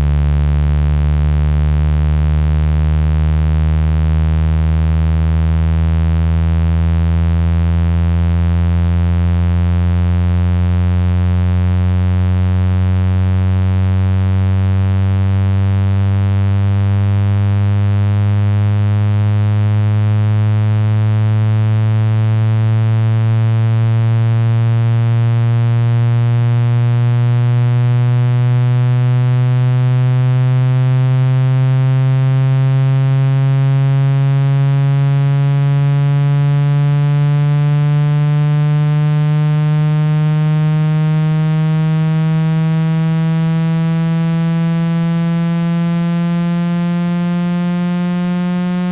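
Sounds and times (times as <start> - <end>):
low synthetic buzzing tone rising: 0.0 - 48.9.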